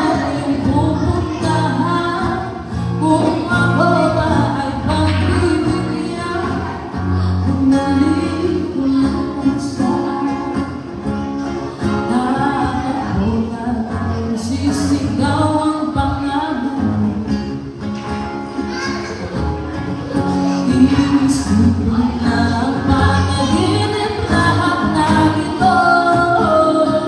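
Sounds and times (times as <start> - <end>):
woman singing into a microphone: 0.0 - 17.6, 20.4 - 27.0
acoustic guitar: 0.0 - 27.0.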